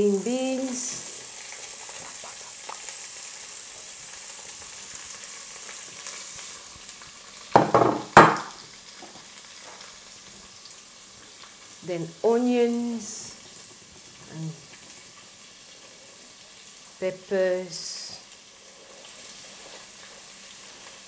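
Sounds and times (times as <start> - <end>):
vegetables sizzling in pot: 0.0 - 21.0.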